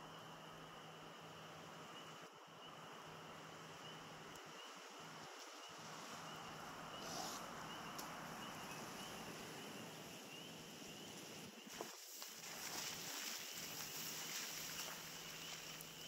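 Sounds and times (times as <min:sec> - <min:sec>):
frogs chirping: 0:00.0 - 0:16.0
steady hiss: 0:00.0 - 0:16.0.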